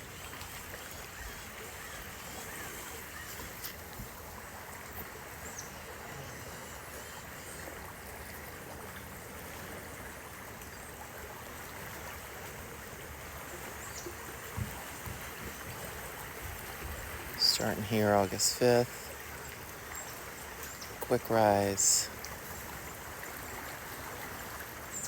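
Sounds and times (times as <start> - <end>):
river water flowing: 0.0 - 25.0.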